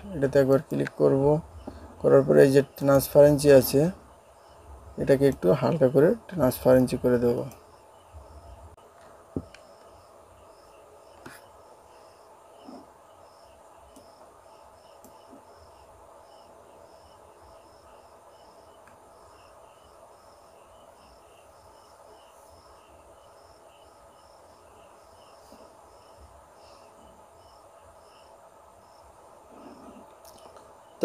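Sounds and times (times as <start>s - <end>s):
crickets chirping: 0.0s - 31.0s
low room hum: 0.0s - 31.0s.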